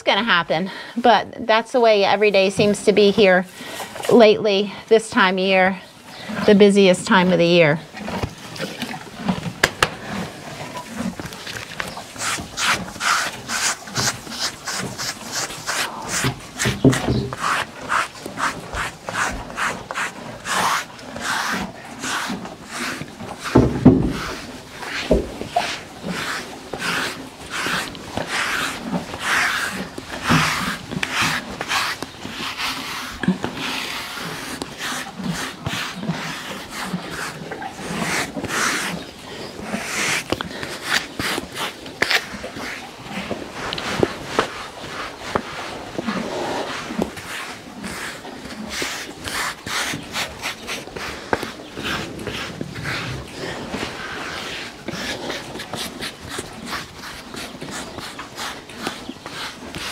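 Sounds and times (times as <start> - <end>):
brush swishing over horse coat: 11.0 - 59.9.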